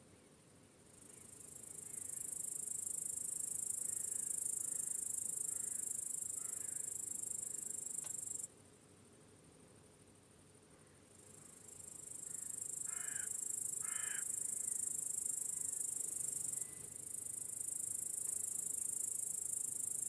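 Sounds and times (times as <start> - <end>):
crickets chirping: 0.8 - 20.0.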